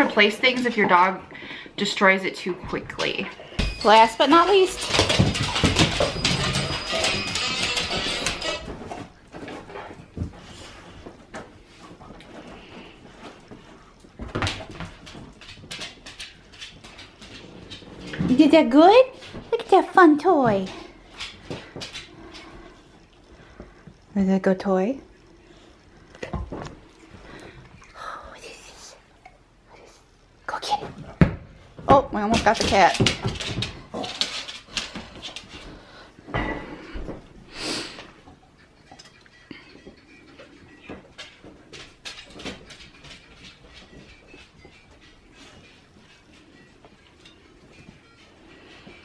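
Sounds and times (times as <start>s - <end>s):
claws and toy on wooden floor: 0.0s - 49.0s.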